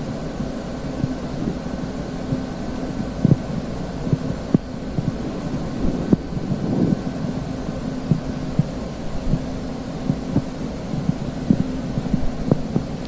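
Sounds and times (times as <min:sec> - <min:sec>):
steady low hum: 0:00.0 - 0:13.0
soft low thumps: 0:02.3 - 0:13.0.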